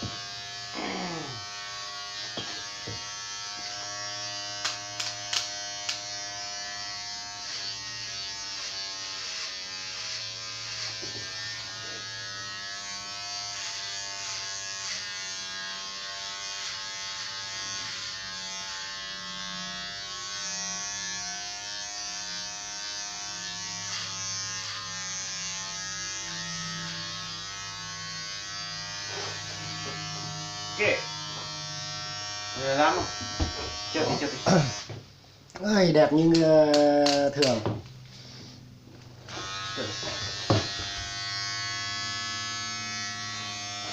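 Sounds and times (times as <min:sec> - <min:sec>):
electric hair clippers buzzing: 0:00.0 - 0:35.0, 0:38.8 - 0:43.9.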